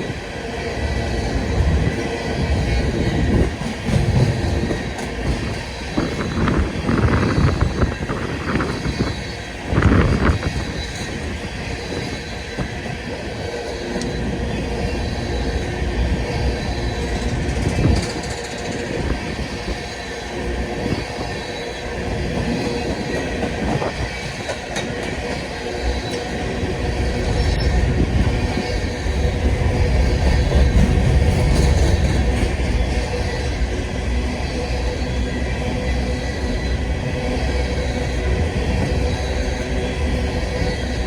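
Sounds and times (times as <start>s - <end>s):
train wheels rumbling and clacking: 0.0s - 41.0s.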